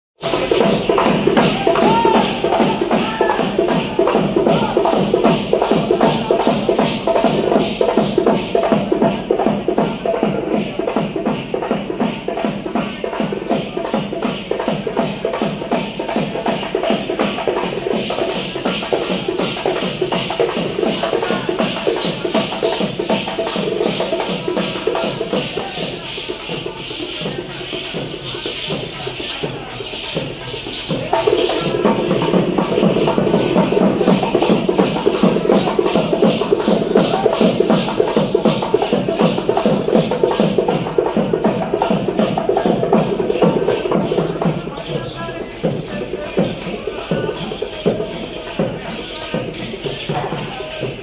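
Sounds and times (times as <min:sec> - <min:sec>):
crowd voices: 0:00.2 - 0:51.0
fast steady drumming: 0:00.2 - 0:51.0.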